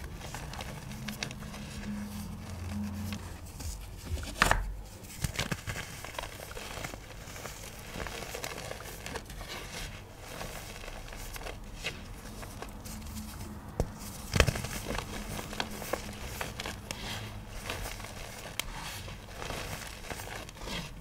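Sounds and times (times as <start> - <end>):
chalk pieces crunching: 0.0 - 21.0.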